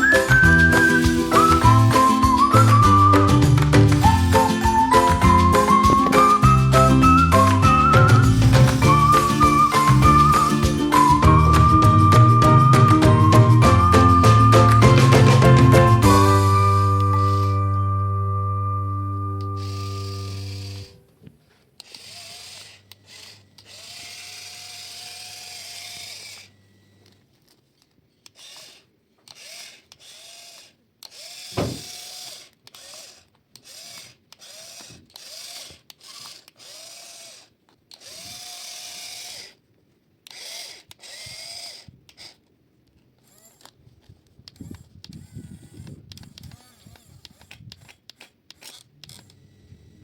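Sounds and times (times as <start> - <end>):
small electric motor whining: 0.0 - 21.2, 21.8 - 39.6, 40.2 - 42.5, 43.2 - 50.0.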